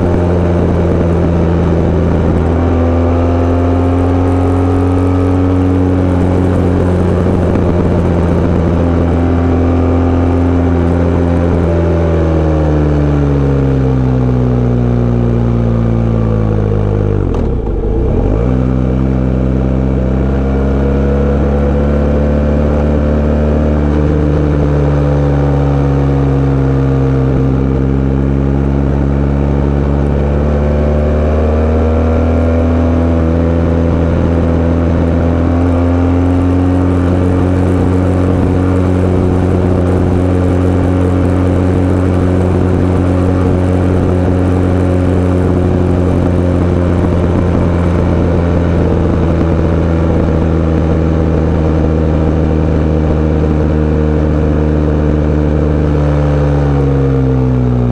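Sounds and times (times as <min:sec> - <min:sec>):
sport bike engine running: 0:00.0 - 0:57.9.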